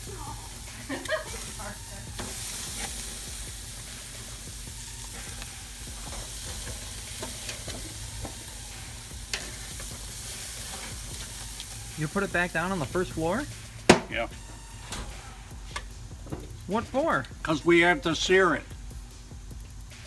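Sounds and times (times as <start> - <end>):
steak sizzling on a grill: 0.0 - 20.0.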